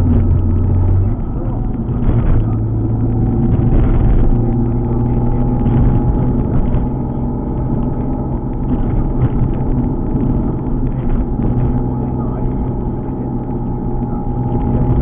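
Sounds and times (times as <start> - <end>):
car engine running: 0.0 - 15.0
road noise rumble: 0.0 - 15.0.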